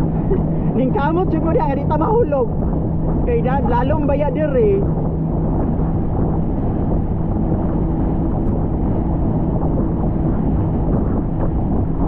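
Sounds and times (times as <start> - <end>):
boat engine drone: 0.0 - 12.0
wind buffeting microphone: 0.0 - 12.0.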